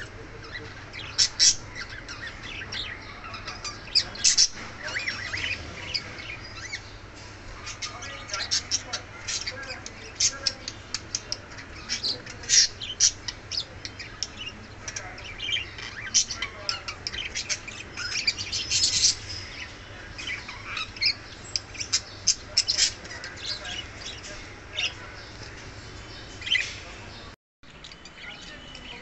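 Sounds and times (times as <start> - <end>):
budgerigars chirping: 0.0 - 29.0.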